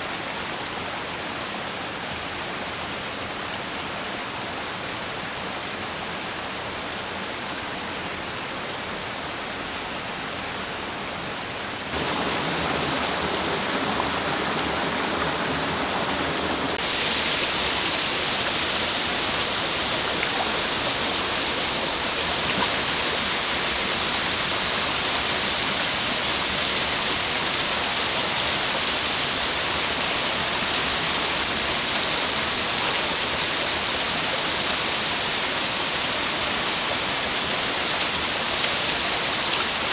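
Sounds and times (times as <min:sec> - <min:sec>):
water rushing into stream pool: 0:00.0 - 0:39.9.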